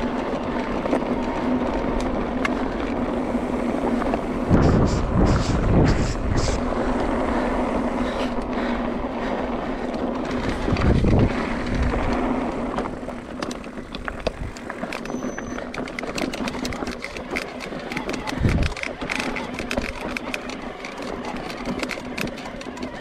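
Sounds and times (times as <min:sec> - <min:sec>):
bike tyres rolling on gravel: 0:00.0 - 0:23.0
gravel clicks and rattles: 0:00.0 - 0:23.0
wind rumbling on microphone: 0:00.0 - 0:23.0.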